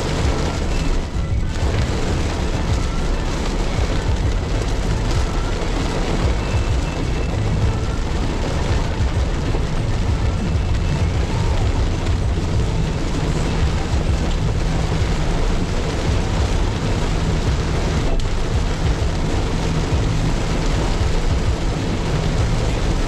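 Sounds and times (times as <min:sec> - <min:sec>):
car driving low rumble: 0:00.0 - 0:23.0.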